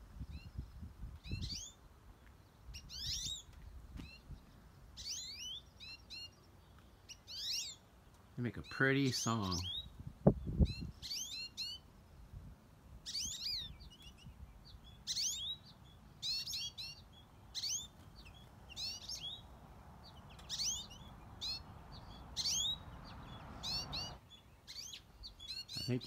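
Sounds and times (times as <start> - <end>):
finches chirping: 2.5 - 11.9, 13.0 - 26.0.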